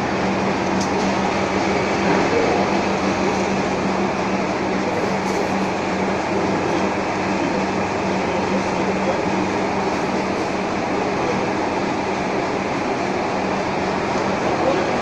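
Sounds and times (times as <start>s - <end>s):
machine-shop machinery running: 0.0s - 15.0s.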